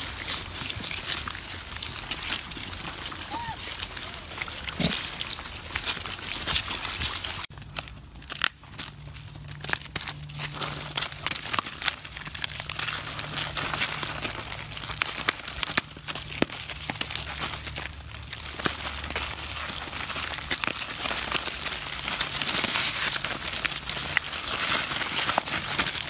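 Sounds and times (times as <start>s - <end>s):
pea pods crunching and snapping: 0.0s - 26.0s
plastic wrappers crinkling: 0.0s - 26.0s.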